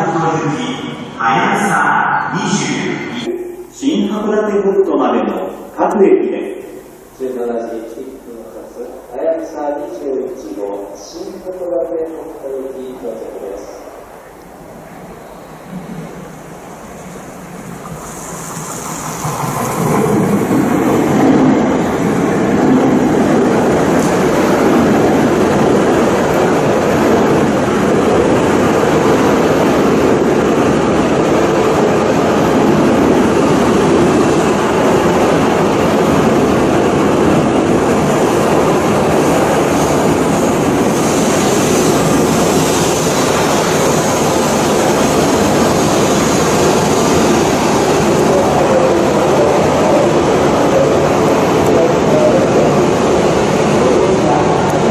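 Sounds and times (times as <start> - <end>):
high-speed train rail noise: 0.0 - 54.9.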